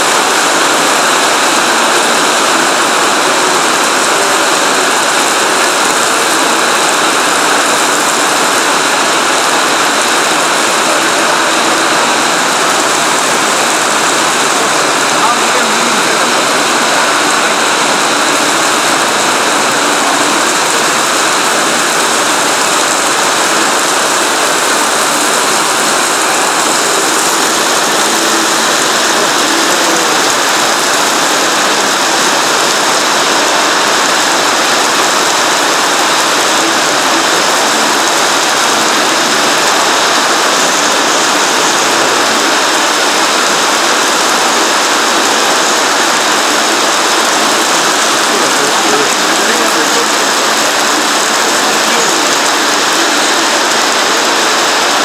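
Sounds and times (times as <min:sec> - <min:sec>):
heavy rain into standing water: 0:00.0 - 0:55.0.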